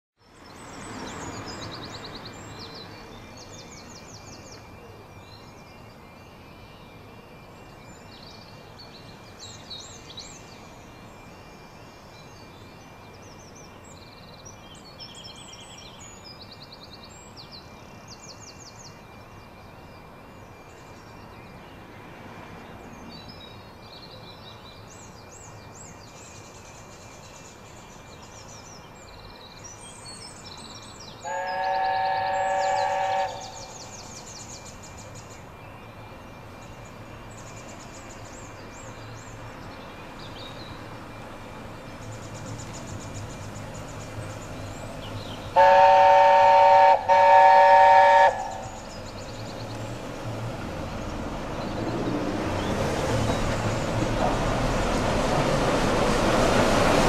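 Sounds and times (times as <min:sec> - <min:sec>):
songbirds trilling: 0:00.3 - 0:55.4.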